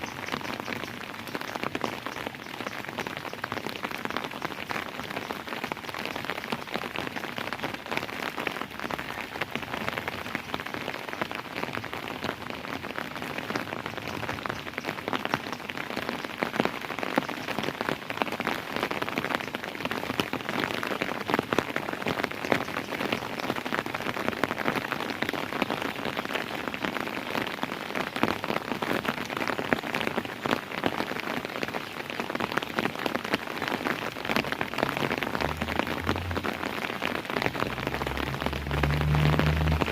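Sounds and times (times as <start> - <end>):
rain on hard surface: 0.0 - 39.9.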